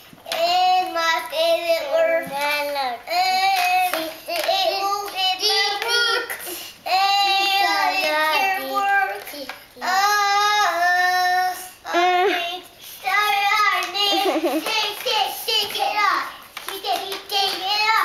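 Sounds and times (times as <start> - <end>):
boy singing: 0.2 - 18.0.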